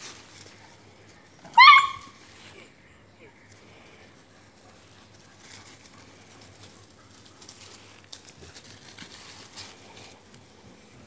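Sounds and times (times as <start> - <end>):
dog paws pattering on leaves: 0.0 - 2.7, 3.5 - 11.0.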